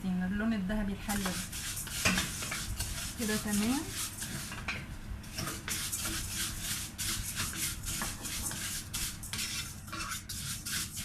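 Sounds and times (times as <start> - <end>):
stirring and scraping in a pot: 1.0 - 11.0.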